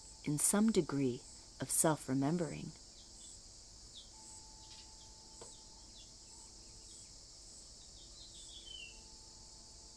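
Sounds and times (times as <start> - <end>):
insects chirring: 0.0 - 9.9.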